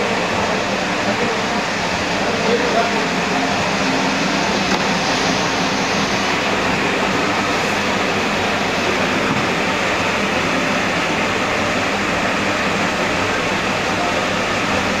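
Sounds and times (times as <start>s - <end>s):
machine running steadily: 0.0s - 15.0s.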